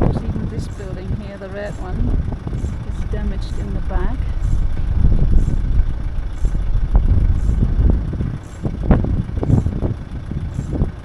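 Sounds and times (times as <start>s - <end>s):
vehicle rumbling on rough road: 0.0s - 11.0s.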